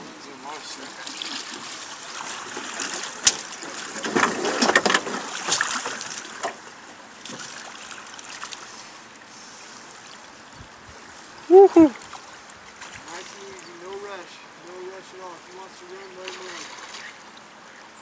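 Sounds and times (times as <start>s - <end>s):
water sloshing around boat: 0.0s - 17.8s.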